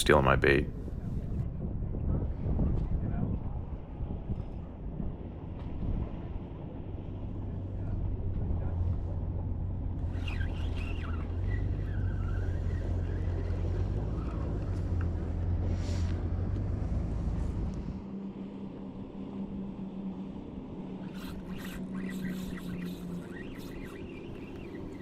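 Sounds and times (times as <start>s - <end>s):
low engine drone: 3.5s - 25.0s.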